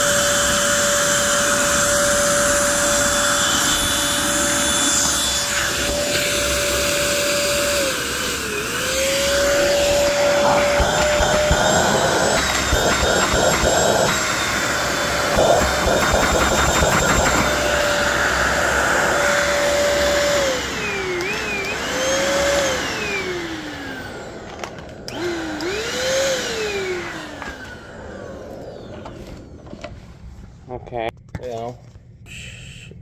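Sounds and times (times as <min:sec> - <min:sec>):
stick vacuum motor whine: 0:00.0 - 0:30.1.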